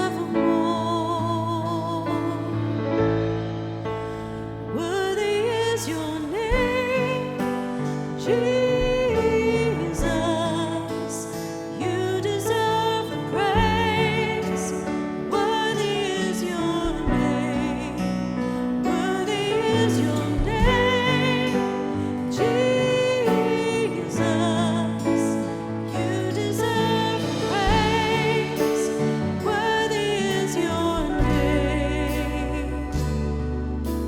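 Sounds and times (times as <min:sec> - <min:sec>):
person singing: 0:00.0 - 0:03.4, 0:04.1 - 0:34.0
bass line: 0:00.0 - 0:10.9, 0:16.6 - 0:34.0.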